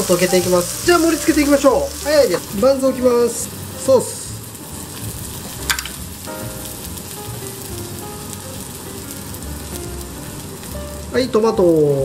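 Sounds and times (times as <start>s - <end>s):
patties sizzling in a frying pan: 0.0s - 12.0s.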